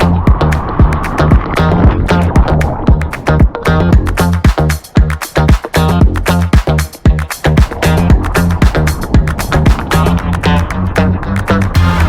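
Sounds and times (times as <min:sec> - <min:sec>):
dance music: 0:00.0 - 0:12.0
heavy bass thumps: 0:00.0 - 0:12.0
plucked guitar-like notes: 0:00.0 - 0:12.0.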